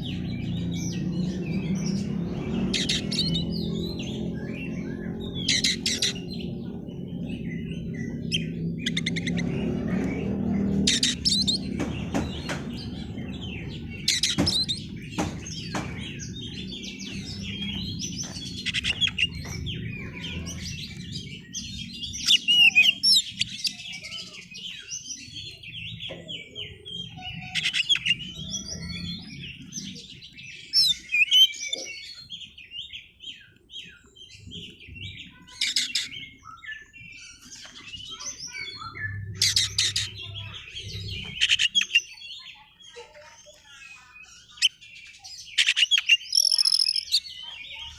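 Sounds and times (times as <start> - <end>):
magpie-robin singing: 0.0 - 47.9.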